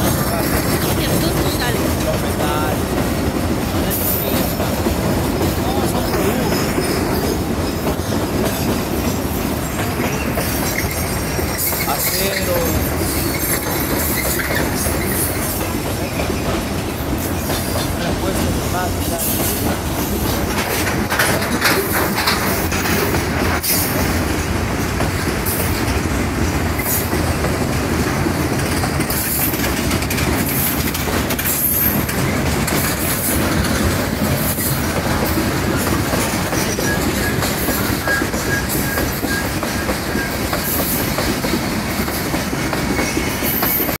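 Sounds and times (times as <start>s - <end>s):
train wheels rumbling on rails: 0.0s - 44.0s
wheels clacking over rail joints: 0.0s - 44.0s.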